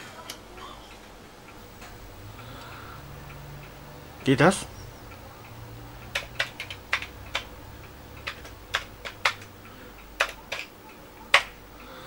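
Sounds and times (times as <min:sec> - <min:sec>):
keyboard keys clacking: 0:01.6 - 0:11.9.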